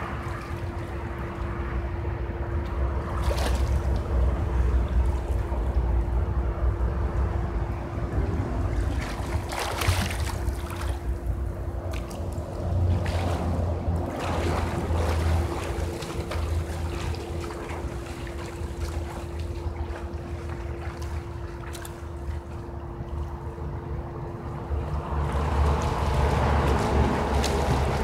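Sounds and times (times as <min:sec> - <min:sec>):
faint hum: 0:00.0 - 0:28.0
pool water splashing: 0:00.0 - 0:28.0
steady low rumble: 0:00.0 - 0:28.0.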